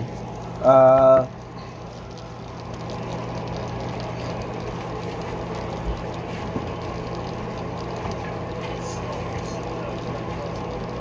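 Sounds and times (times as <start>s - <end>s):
low even hum: 0.0s - 11.0s
rain and running water: 0.0s - 11.0s.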